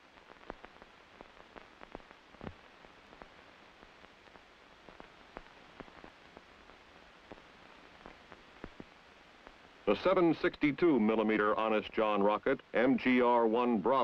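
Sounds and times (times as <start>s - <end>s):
film soundtrack surface noise: 0.0s - 14.0s.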